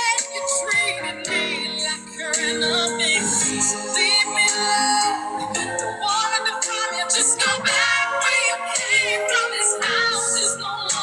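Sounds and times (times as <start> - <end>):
backing music: 0.0 - 11.0
person singing with vibrato: 0.0 - 11.0.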